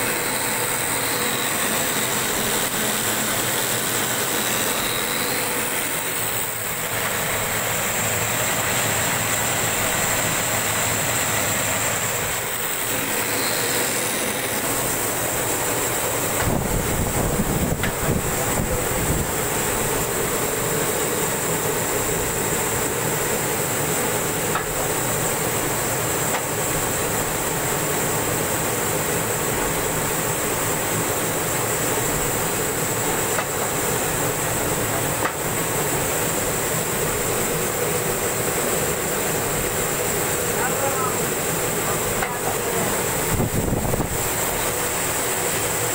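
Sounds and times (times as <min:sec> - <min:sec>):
machine hum and whine: 0:00.0 - 0:45.9.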